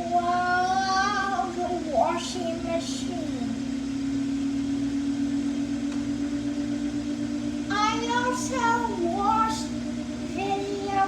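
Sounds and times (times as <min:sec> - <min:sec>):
washing machine spin cycle hum: 0:00.0 - 0:11.0.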